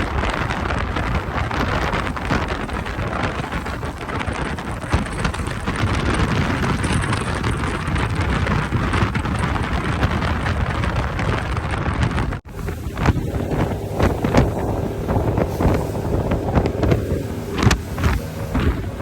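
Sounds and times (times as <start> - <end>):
water rushing past boat hull: 0.0 - 19.0
wind buffeting microphone: 0.0 - 19.0.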